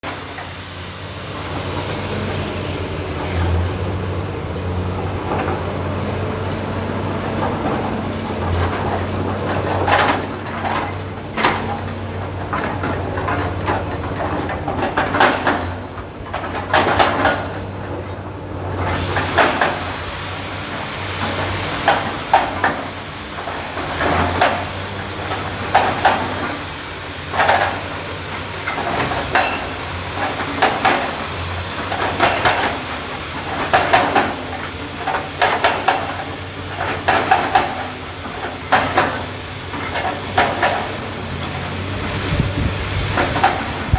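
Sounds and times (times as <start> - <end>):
excavator engine hum: 0.0 - 43.9
metallic clanks and scraping: 0.1 - 20.3, 21.2 - 43.9.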